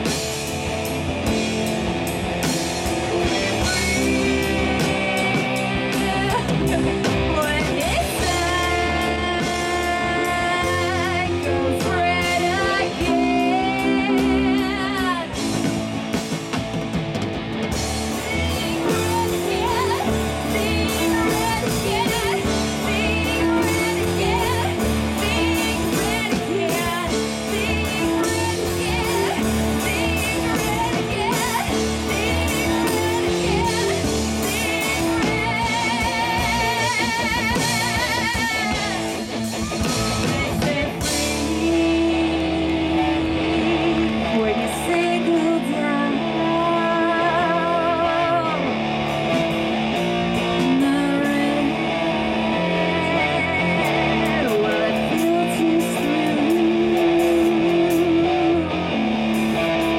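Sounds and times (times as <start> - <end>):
woman singing lead: 0.0 - 16.5, 17.6 - 59.9
drum kit: 0.0 - 46.7, 47.3 - 59.9
bass guitar: 0.0 - 59.9
electric guitars: 0.0 - 59.9.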